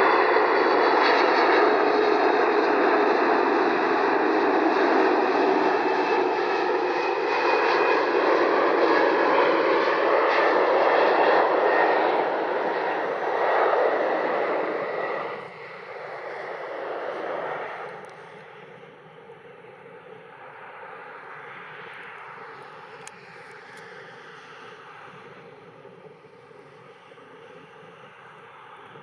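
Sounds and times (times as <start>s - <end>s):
jet airliner engines passing: 0.0s - 29.0s.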